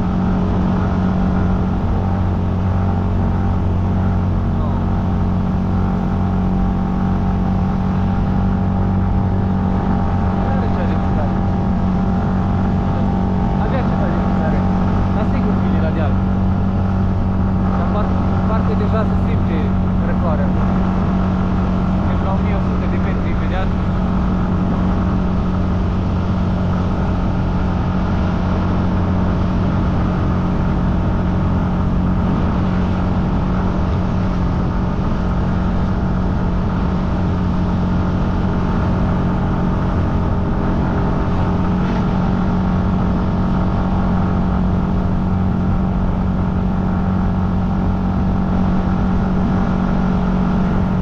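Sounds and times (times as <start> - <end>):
motor scooter engine running: 0.0 - 51.0.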